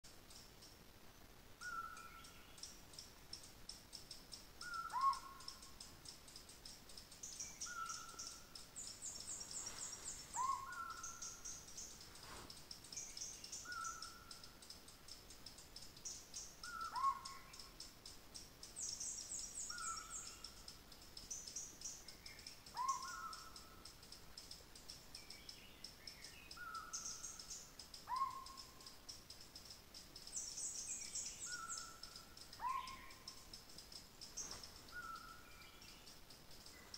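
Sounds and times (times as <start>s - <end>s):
insect trill: 0.1s - 36.9s.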